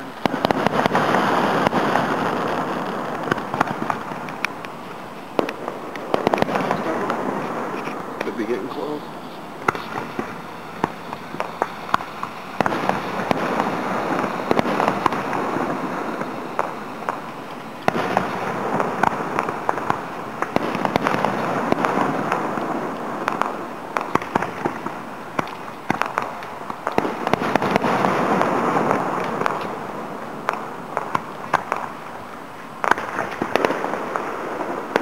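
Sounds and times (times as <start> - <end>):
continuous rushing noise: 0.0 - 35.0
distant fireworks bangs: 0.0 - 35.0.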